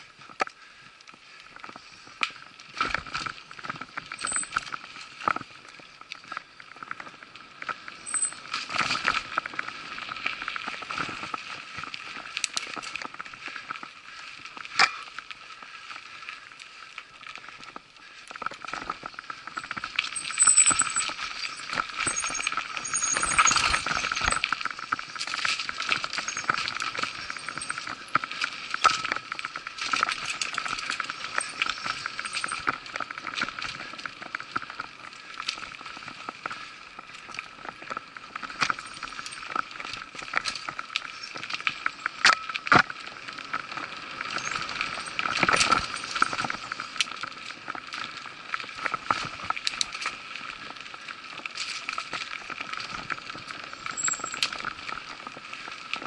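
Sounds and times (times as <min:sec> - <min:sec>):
mountain bike rattling: 0:00.0 - 0:56.0.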